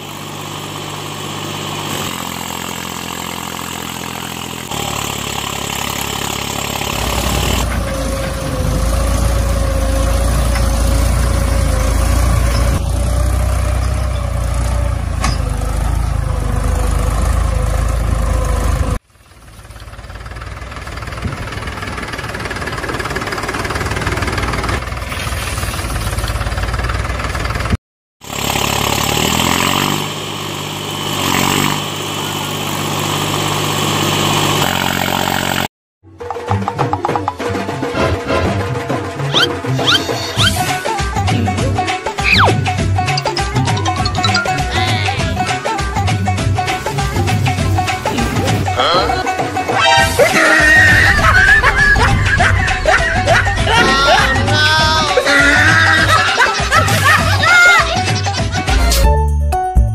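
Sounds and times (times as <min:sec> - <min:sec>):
small tractor engine running: 0:00.0 - 0:35.7, 0:38.9 - 0:58.8.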